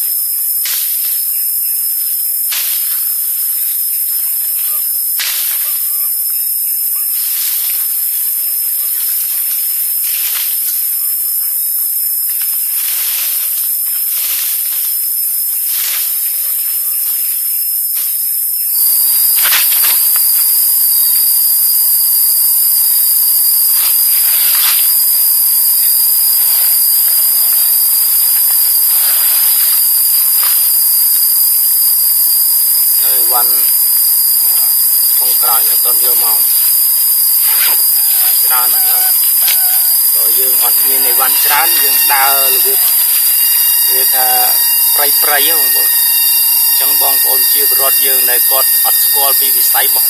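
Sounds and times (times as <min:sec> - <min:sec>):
cicadas droning: 0:00.0 - 0:50.0
thin steady tone: 0:00.0 - 0:50.0.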